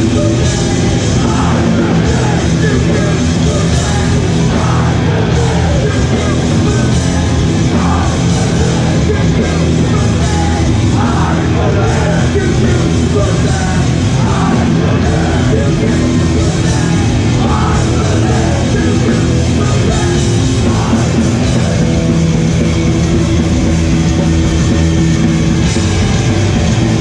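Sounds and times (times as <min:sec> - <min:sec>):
shouted vocals: 0:00.0 - 0:22.0
punk band playing live: 0:00.0 - 0:27.0.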